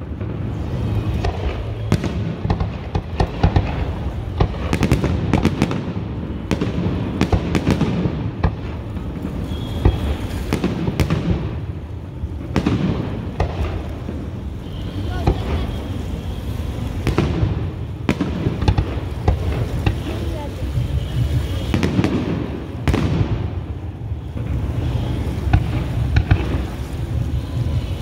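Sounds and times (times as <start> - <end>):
fireworks bursting with sharp bangs: 0.0 - 28.0.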